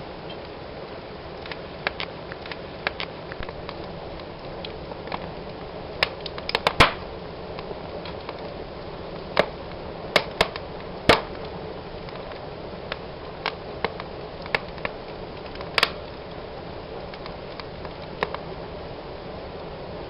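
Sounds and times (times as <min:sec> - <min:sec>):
fire crackles and pops: 0:00.0 - 0:20.0
wood fire hissing: 0:00.0 - 0:20.0.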